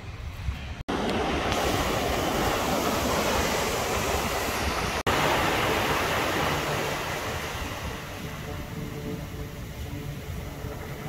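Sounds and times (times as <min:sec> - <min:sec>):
small ocean waves breaking: 0:00.8 - 0:11.0.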